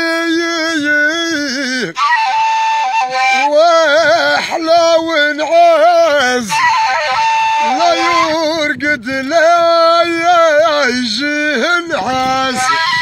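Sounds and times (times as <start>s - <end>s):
cane flute melody: 0.0s - 13.0s.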